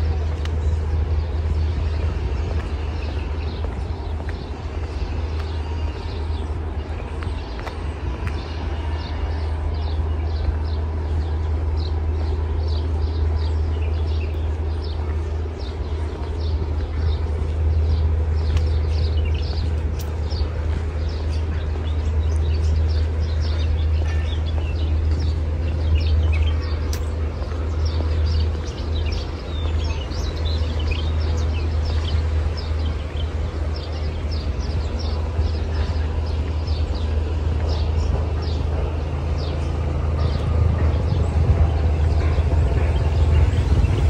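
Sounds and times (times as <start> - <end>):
small birds chirping: 0.0 - 44.0
steady low rumble: 0.0 - 44.0.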